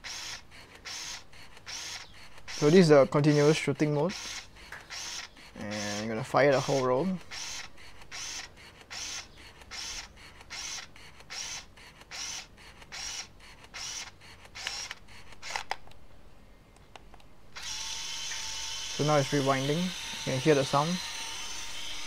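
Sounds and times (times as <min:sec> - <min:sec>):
camera motor rewinding film: 0:00.0 - 0:15.8, 0:17.6 - 0:20.4, 0:21.0 - 0:22.0
camera shutter and film advance: 0:00.0 - 0:15.8, 0:17.5 - 0:20.2.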